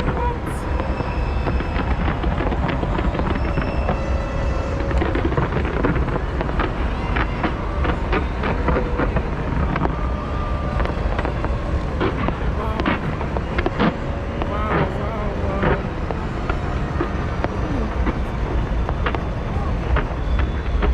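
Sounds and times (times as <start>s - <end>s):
crowd voices: 0.0s - 20.9s
fireworks bangs and crackles: 0.0s - 20.9s
low rumble: 0.0s - 20.9s.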